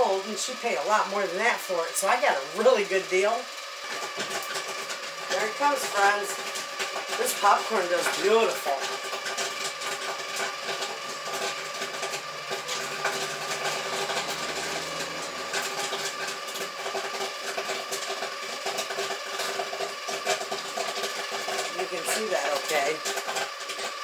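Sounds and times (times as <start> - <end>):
stirrer motor hum: 0.0 - 24.0
popcorn kernels popping: 3.6 - 24.0.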